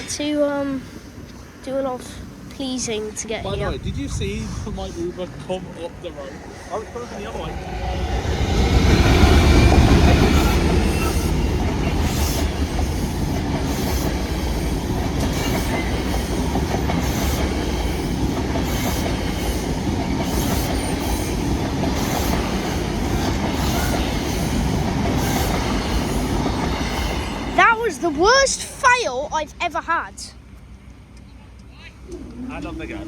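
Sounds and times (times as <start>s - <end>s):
train coaches rumbling: 0.0s - 33.0s.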